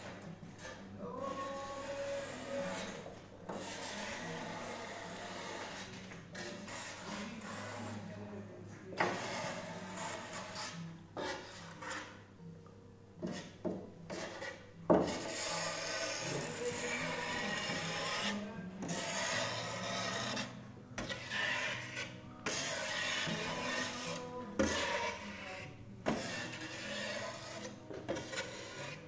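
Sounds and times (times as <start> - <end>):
spreader scraping across glass: 0.6 - 8.4, 9.0 - 12.2, 13.2 - 29.0.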